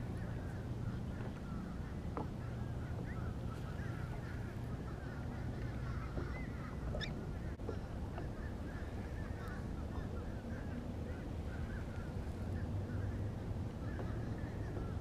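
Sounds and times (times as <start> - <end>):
steady low rumble: 0.0 - 15.0
flock of birds calling: 0.1 - 7.6, 8.2 - 15.0.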